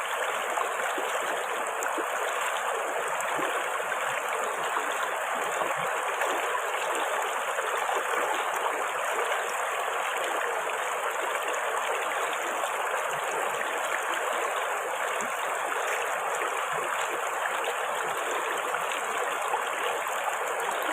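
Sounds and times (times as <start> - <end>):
river water flowing over rocks: 0.0 - 20.9.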